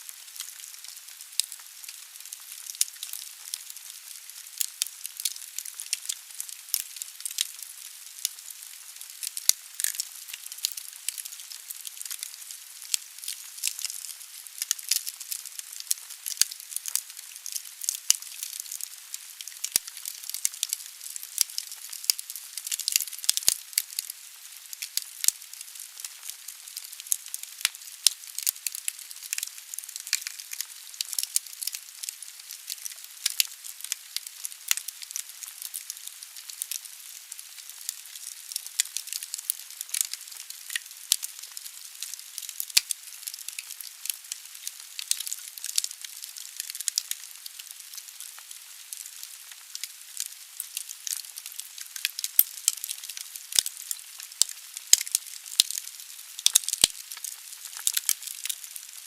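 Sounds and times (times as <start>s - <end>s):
firewood crackling and popping: 0.1s - 59.0s.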